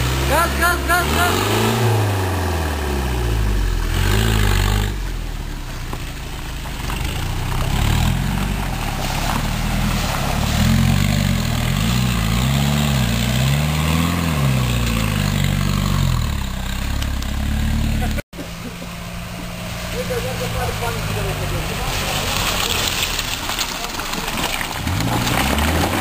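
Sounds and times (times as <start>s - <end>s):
engine revving in mud: 0.0s - 26.0s.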